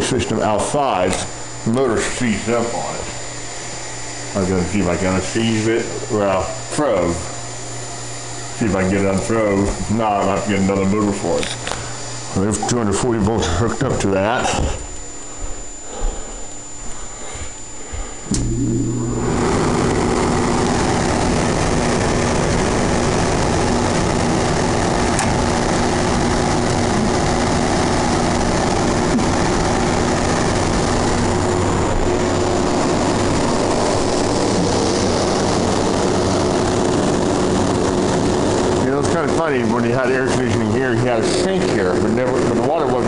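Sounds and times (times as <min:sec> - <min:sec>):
air conditioner fan running: 0:00.0 - 0:43.0.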